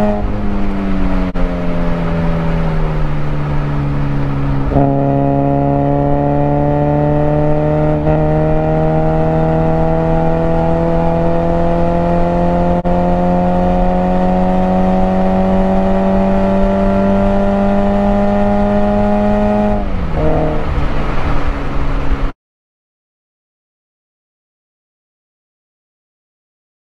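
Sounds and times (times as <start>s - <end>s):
car engine accelerating: 0.0s - 22.3s.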